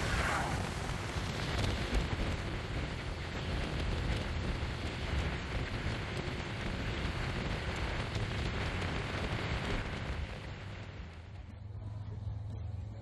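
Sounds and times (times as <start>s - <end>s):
wind rushing over microphone: 0.0s - 11.9s
scooter road noise rumble: 0.0s - 13.0s.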